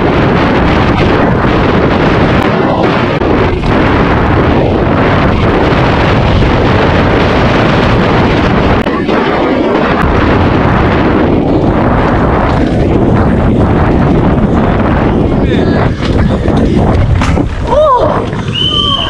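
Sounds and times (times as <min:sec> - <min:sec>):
bike knocking and rattling: 0:00.0 - 0:19.0
wind rush on microphone: 0:00.0 - 0:19.0.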